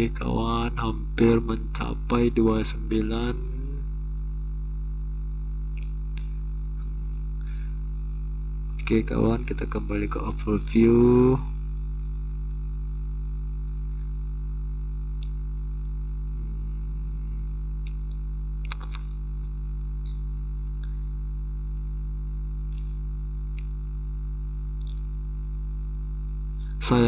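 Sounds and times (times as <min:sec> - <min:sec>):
buzzing electrical hum: 0:00.0 - 0:27.0.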